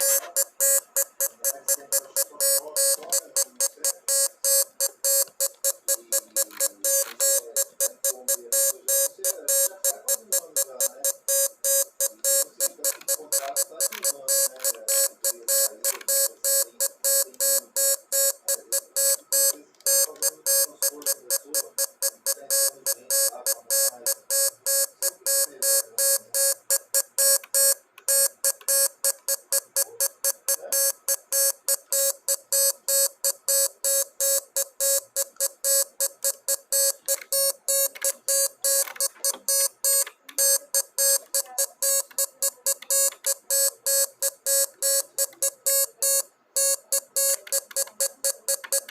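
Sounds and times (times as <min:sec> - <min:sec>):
morse code beeps: 0:00.0 - 0:48.9.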